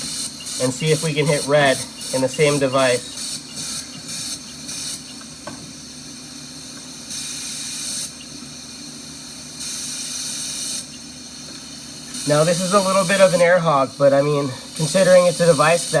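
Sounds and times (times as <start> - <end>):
steady low hum: 0.0 - 16.0
ventilator air hissing in bursts: 0.0 - 16.0.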